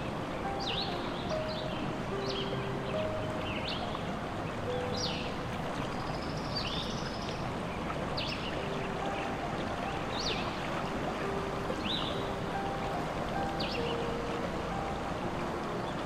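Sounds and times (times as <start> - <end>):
small birds chirping: 0.0 - 15.2
soft sustained music notes: 0.0 - 16.0
stream flowing: 0.0 - 16.0.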